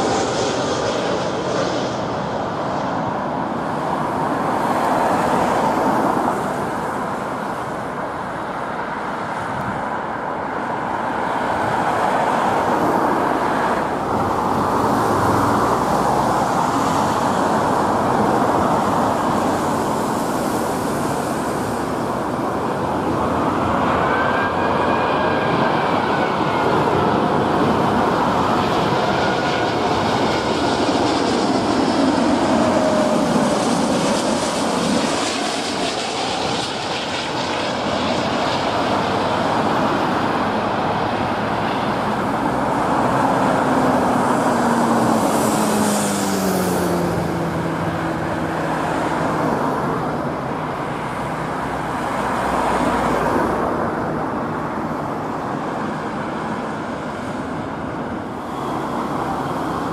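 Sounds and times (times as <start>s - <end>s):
jet airliner landing: 0.0s - 59.9s.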